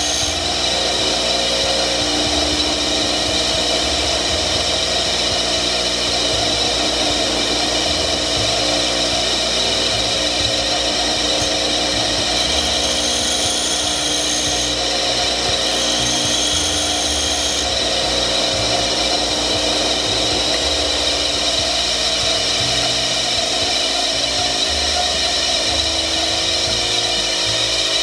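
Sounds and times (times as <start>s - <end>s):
bench grinder motor hum: 0.0s - 28.0s
drill bit grinding hiss: 0.0s - 28.0s.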